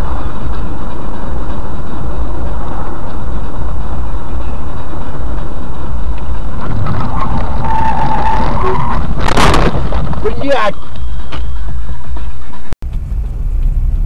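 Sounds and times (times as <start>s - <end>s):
vehicle rumbling in motion: 0.0s - 14.0s.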